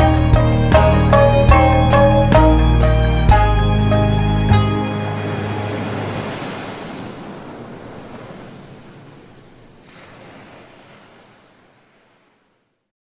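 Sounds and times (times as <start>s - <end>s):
ocean surf washing: 1.1s - 12.9s.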